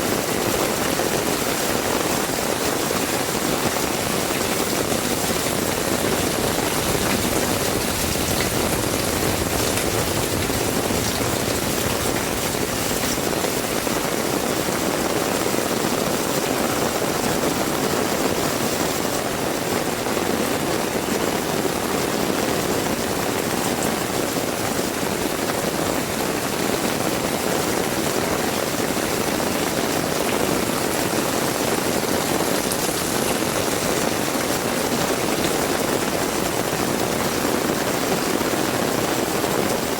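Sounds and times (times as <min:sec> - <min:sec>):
heavy rain hitting ground: 0:00.0 - 0:39.9.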